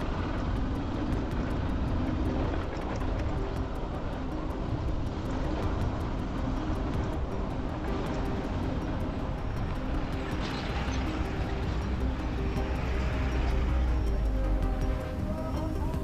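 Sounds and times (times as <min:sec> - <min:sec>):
low rumble: 0:00.0 - 0:16.0
road and wind noise: 0:00.0 - 0:16.0
vehicle engine drone: 0:00.0 - 0:16.0.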